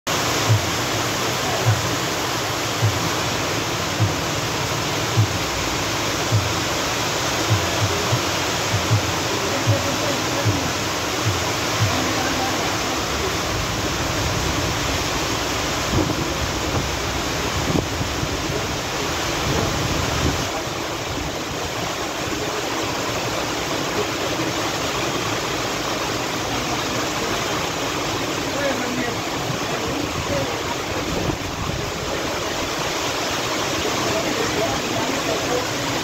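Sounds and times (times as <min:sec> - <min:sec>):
heavy rain pouring: 0:00.1 - 0:36.0.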